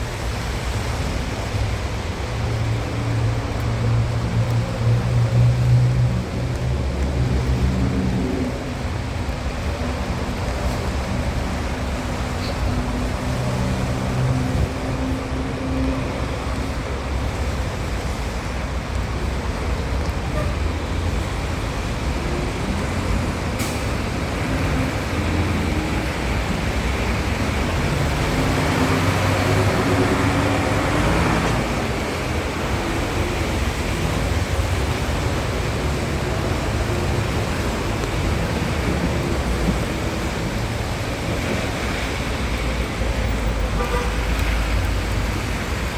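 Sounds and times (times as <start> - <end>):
rain hissing: 0.0 - 45.9
tyres on wet road: 0.0 - 45.9
vehicle engines passing: 0.0 - 45.9.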